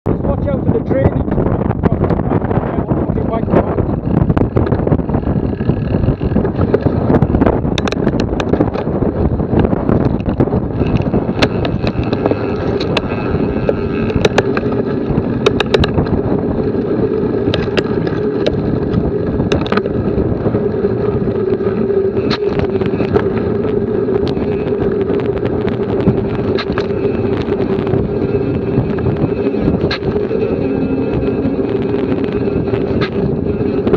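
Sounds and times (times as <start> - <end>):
wind buffeting microphone: 0.0 - 33.9
bike rattles and clicks: 0.1 - 33.9
steady hum: 0.1 - 33.9
tyre and road noise: 0.1 - 33.9.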